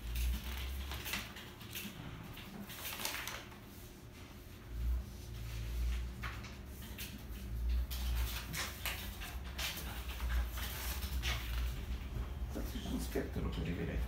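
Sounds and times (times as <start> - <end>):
paper rustling: 0.0 - 4.5, 5.2 - 13.3.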